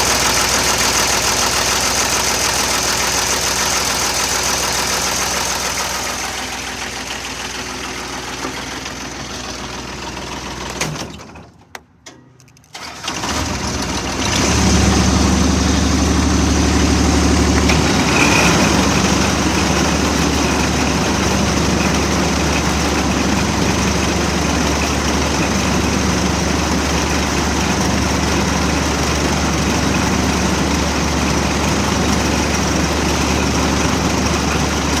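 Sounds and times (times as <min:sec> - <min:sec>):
mower diesel engine running: 0:00.0 - 0:11.5, 0:12.8 - 0:35.0.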